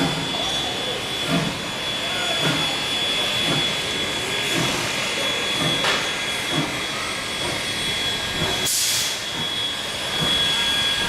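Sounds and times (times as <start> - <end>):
locomotive running noise: 0.0 - 11.0
steam locomotive hissing: 0.0 - 11.0.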